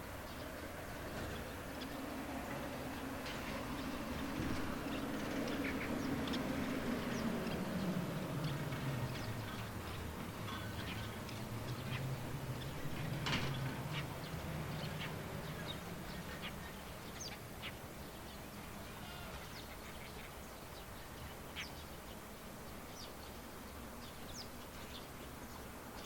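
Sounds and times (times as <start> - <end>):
faint outdoor hiss: 0.0 - 26.0
birds chirping: 0.1 - 26.0.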